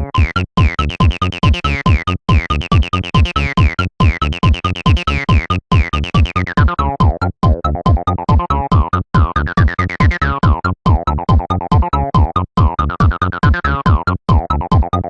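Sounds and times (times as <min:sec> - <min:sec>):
fast electronic beat: 0:00.0 - 0:15.0.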